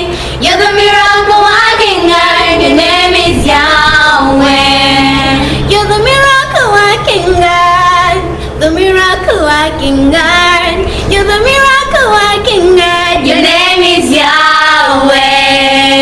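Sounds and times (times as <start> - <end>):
girls singing in unison: 0.0 - 16.0.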